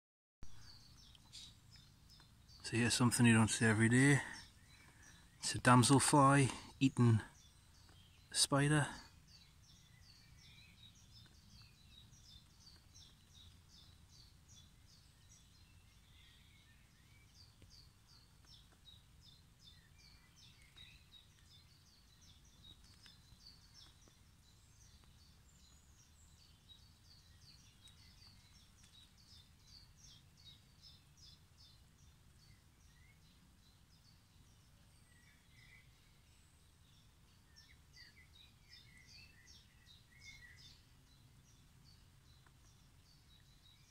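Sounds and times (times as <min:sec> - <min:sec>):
distant bird chirps: 0:00.4 - 0:43.9.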